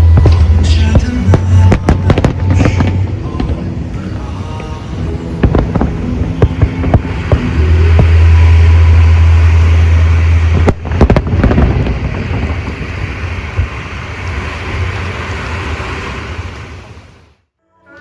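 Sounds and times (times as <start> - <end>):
firework bangs and crackles: 0.0 - 17.1
low fireworks rumble: 0.0 - 17.4.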